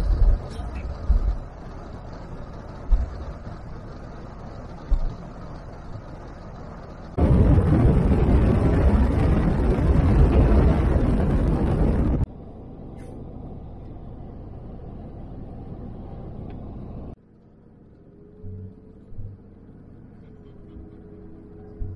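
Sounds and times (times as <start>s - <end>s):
low hum: 0.0s - 21.9s
tyre and road rush in cab: 0.0s - 21.9s
wind and road rush: 0.0s - 21.9s.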